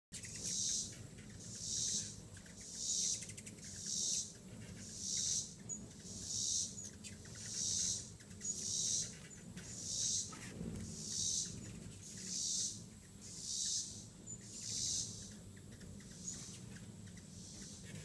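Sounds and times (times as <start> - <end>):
insects buzzing in trees: 0.1 - 18.0.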